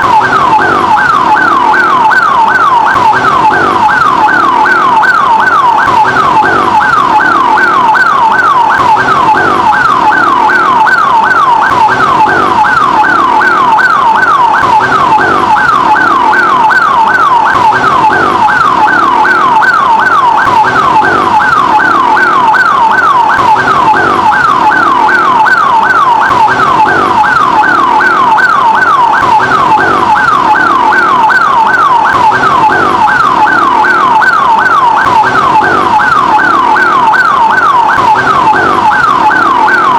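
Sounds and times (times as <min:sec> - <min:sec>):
ambulance siren yelping: 0:00.0 - 0:39.9.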